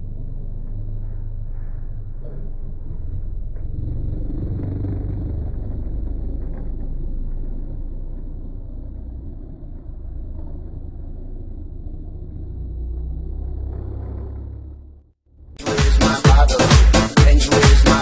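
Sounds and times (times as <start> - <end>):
car engine low rumble: 0.0 - 15.6.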